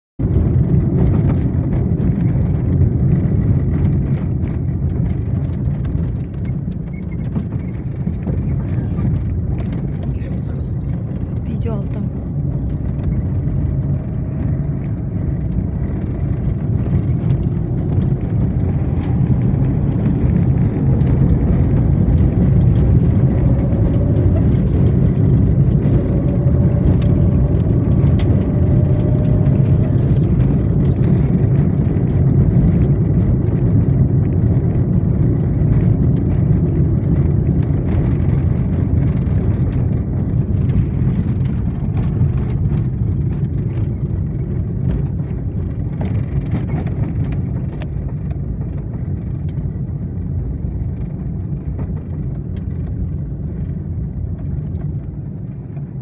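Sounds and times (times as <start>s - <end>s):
vehicle engine rumble: 0.2s - 56.0s.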